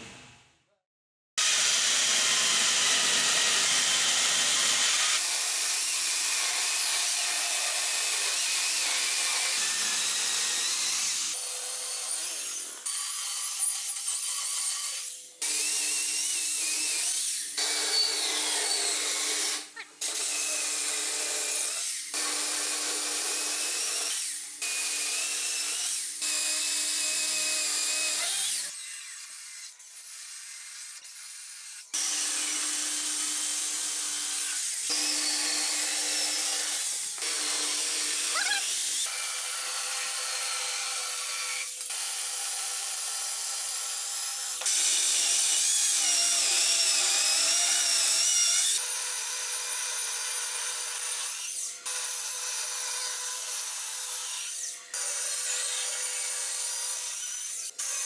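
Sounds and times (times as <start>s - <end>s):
electric chainsaw cutting wood: 1.4s - 58.0s.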